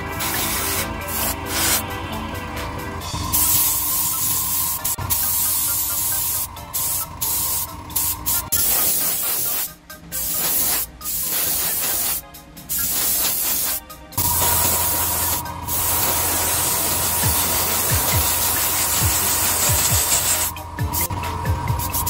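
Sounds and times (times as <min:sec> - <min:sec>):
spray paint hiss: 0:00.0 - 0:01.8, 0:03.3 - 0:21.1, 0:21.8 - 0:22.0.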